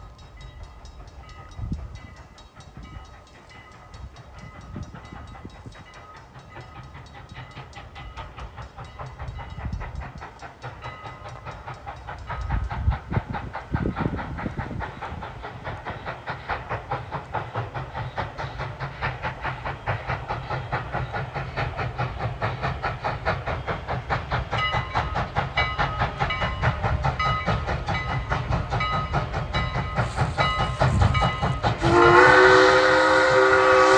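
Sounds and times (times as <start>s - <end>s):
steam hissing: 0.0s - 33.9s
steam locomotive exhaust chuffing: 0.0s - 33.9s.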